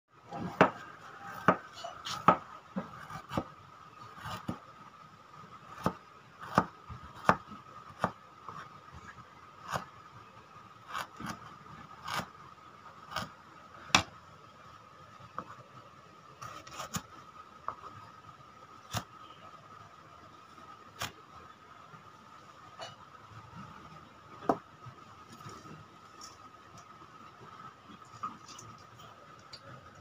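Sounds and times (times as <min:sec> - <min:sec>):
faint steady hum: 0:00.1 - 0:30.0.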